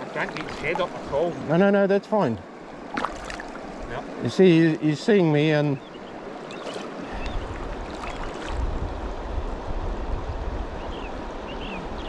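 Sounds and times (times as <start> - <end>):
river water rushing: 0.0 - 9.9.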